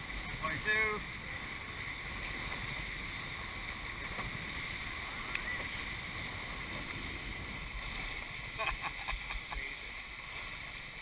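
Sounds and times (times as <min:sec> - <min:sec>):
water rushing along boat hulls: 0:00.0 - 0:11.0.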